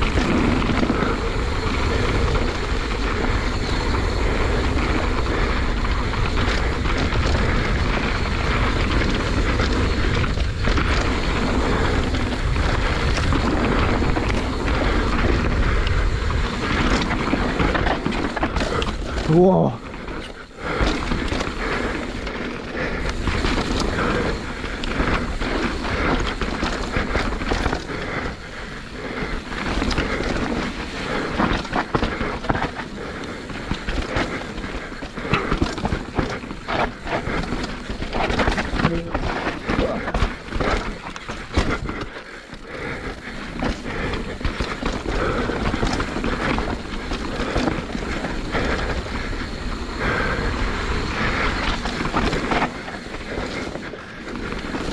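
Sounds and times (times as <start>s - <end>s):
bike clattering over bumps: 0.0s - 54.9s
bike tyres rumbling on dirt: 0.0s - 54.9s
wind buffeting microphone: 0.0s - 54.9s.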